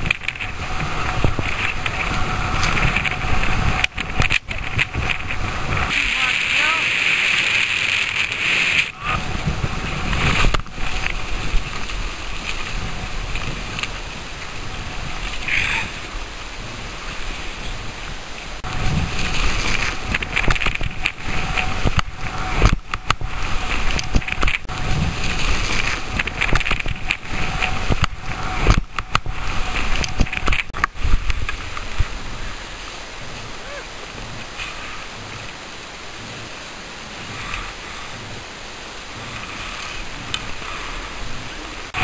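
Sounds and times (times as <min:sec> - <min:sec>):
snow scraping under skis: 0:00.0 - 0:15.9, 0:16.5 - 0:42.0
wind buffeting microphone: 0:00.0 - 0:42.0.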